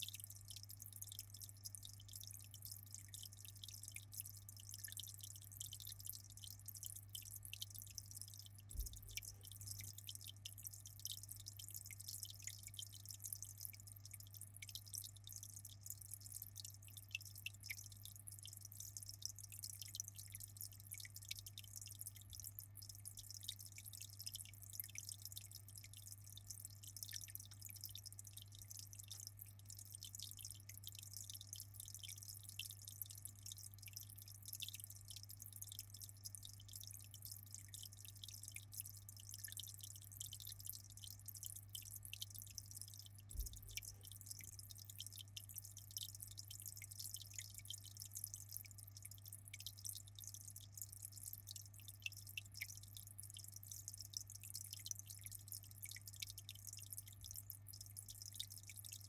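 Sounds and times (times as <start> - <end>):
aquarium water trickling: 0.0 - 59.0.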